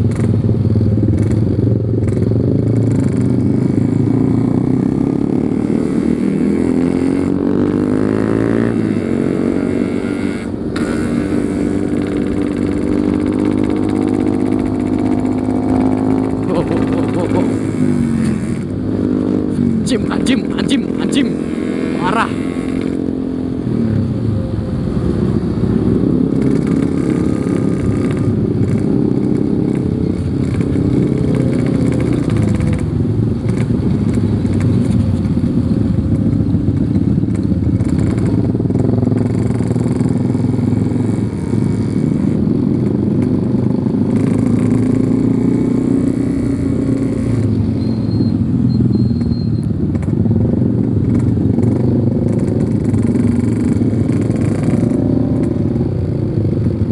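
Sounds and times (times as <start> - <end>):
two-stroke motorcycle engine running: 0.0 - 56.9.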